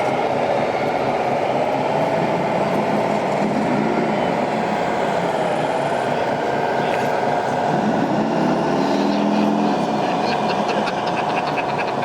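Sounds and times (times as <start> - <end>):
model trucks running: 0.0 - 12.0.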